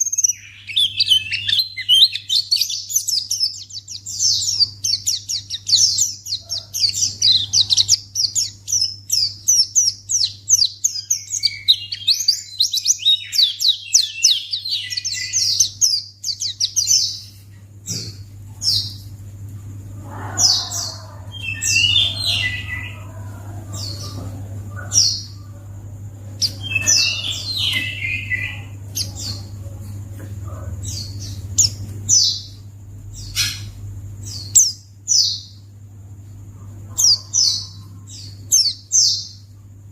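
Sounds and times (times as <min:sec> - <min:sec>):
bird twittering and chirping: 0:00.0 - 0:39.9
steady low hum: 0:00.0 - 0:39.9.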